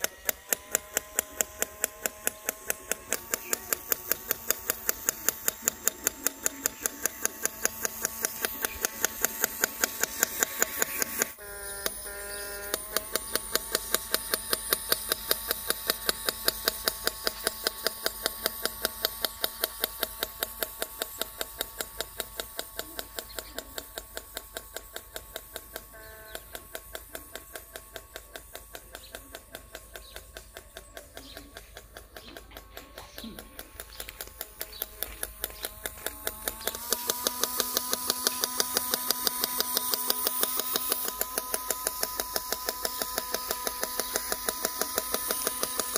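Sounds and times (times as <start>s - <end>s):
regular mechanical knock: 0.0s - 45.9s
small electric motors whining: 0.0s - 45.9s.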